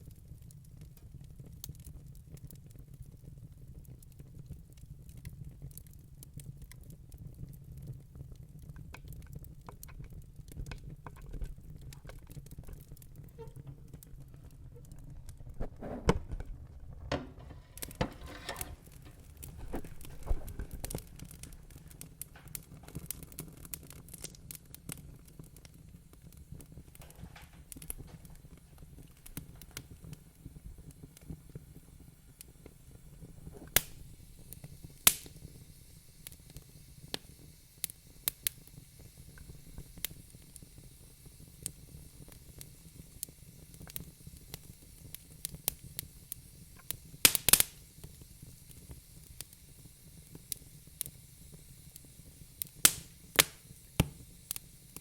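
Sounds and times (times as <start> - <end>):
low rumble of flames: 0.0 - 55.0
wood fire crackling: 0.0 - 55.0
sharp pops of fire: 0.1 - 55.0.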